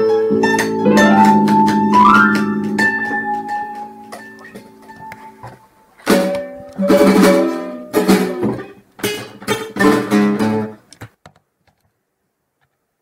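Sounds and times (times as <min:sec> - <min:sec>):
acoustic guitar strumming chords: 0:00.0 - 0:10.8.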